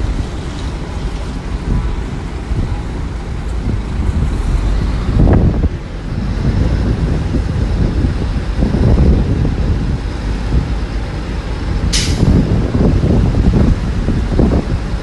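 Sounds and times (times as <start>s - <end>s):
bulldozer engine rumbling: 0.0s - 15.0s
wind buffeting microphone: 0.0s - 15.0s.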